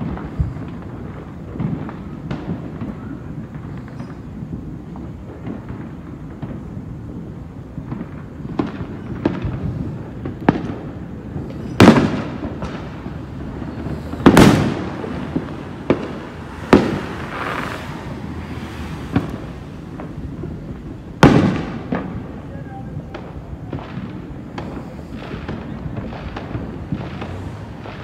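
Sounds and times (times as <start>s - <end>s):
fireworks bangs and pops: 0.0s - 28.0s
fireworks crackle: 0.0s - 28.0s.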